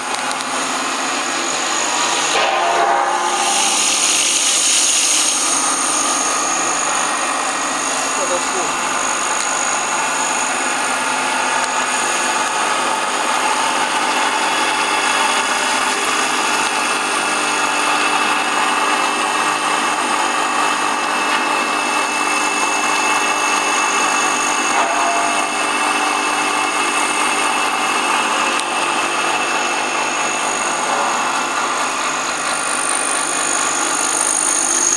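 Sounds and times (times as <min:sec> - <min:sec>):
grinding mill running: 0:00.0 - 0:34.9.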